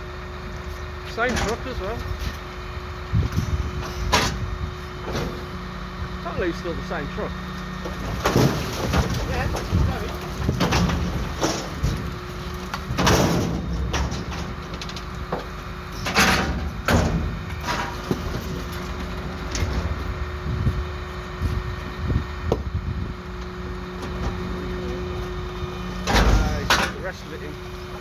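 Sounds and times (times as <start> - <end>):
garbage truck engine humming: 0.0 - 28.0
compactor bangs and rattles: 1.0 - 2.5, 3.1 - 22.7, 23.4 - 28.0.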